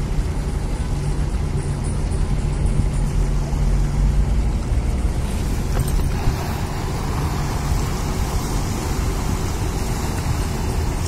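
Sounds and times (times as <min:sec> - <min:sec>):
tugboat engine rumble: 0:00.0 - 0:11.0.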